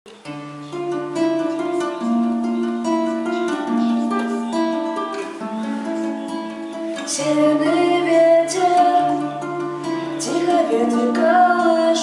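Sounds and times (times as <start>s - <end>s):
acoustic guitar picking: 0.1s - 12.0s.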